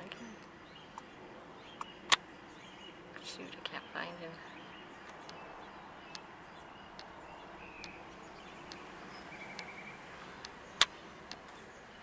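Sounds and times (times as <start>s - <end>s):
distant bird chirps: 0.0s - 12.0s
faint outdoor background noise: 0.0s - 12.0s.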